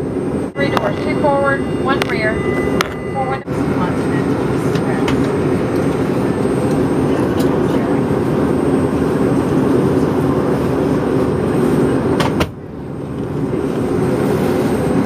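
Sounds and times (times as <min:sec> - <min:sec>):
aircraft cabin air rushing: 0:00.0 - 0:15.0.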